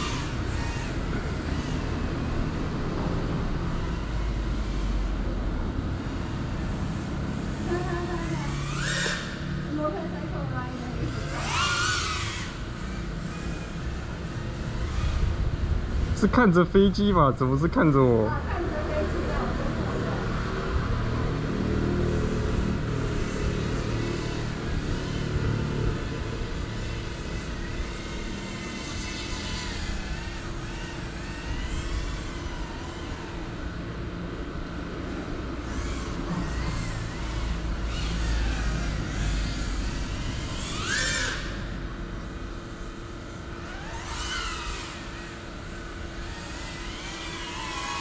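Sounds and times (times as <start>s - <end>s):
drone motors humming: 0.0s - 48.0s.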